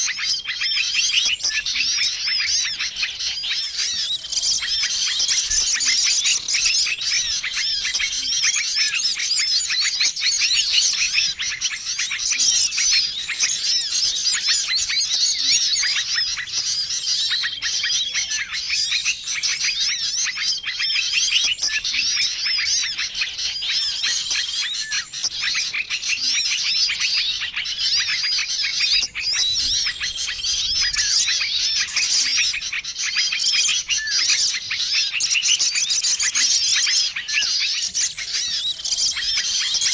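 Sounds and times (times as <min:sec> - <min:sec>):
songbirds chirping in chorus: 0:00.0 - 0:39.9.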